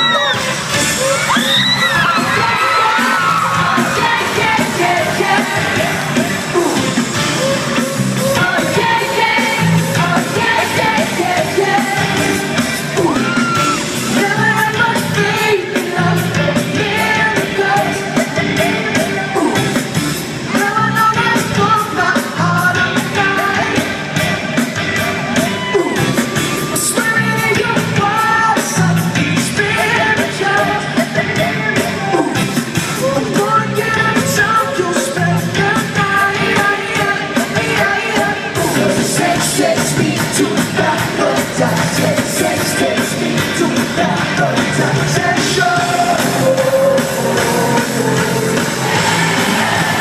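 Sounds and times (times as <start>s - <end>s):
crowd yelling: 0.0s - 15.7s, 22.2s - 50.0s
lead singer singing: 0.0s - 50.0s
live pop band playing: 0.0s - 50.0s.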